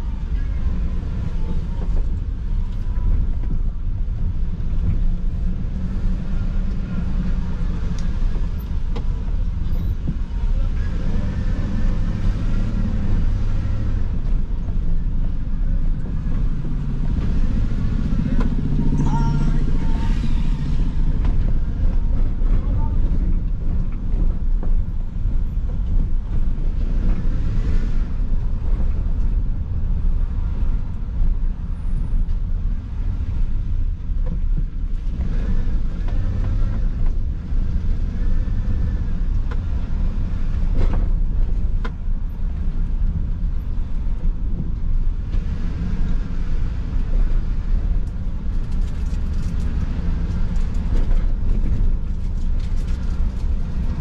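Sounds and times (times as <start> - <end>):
car driving interior rumble: 0.0 - 54.0.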